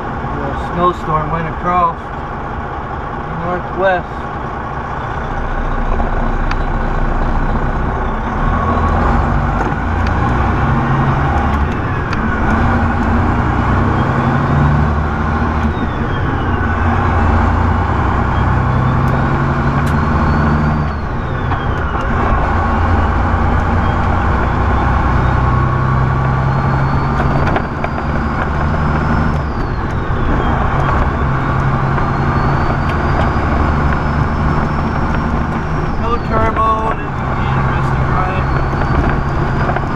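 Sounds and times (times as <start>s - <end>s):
diesel truck engine shifting gears: 0.0s - 39.9s
high engine whine: 0.0s - 39.9s.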